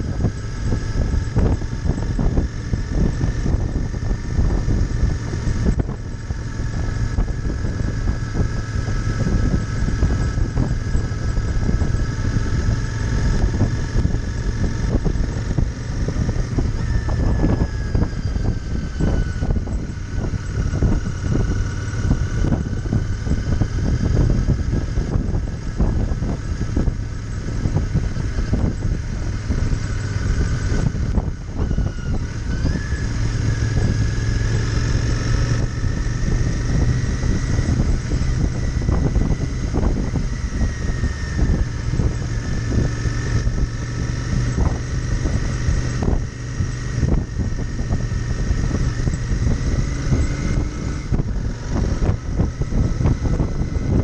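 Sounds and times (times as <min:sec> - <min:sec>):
motorcycle engine running: 0:00.0 - 0:54.0
wind buffeting on microphone: 0:00.0 - 0:54.0.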